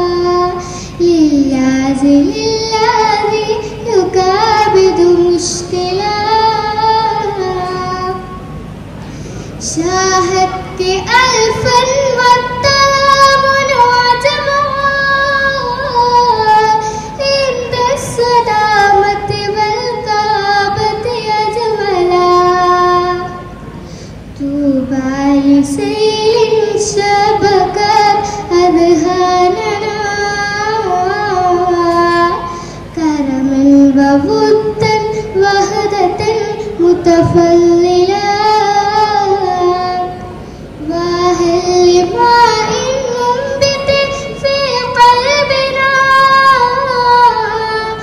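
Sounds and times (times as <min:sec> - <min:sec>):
girl singing unaccompanied: 0:00.0 - 0:08.8, 0:09.6 - 0:23.6, 0:24.4 - 0:48.0.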